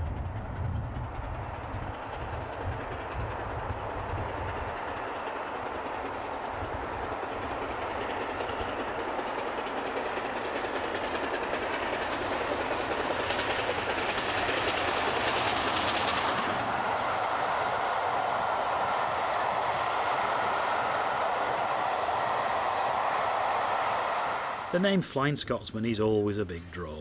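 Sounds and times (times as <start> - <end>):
steam locomotive running: 0.0 - 27.0
train coaches rumbling: 0.0 - 27.0.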